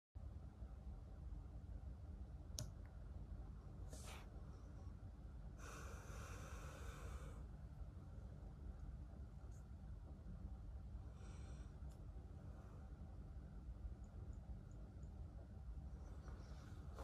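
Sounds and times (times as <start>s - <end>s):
steady low hum: 0.2s - 17.0s
soft hiss: 1.2s - 17.0s.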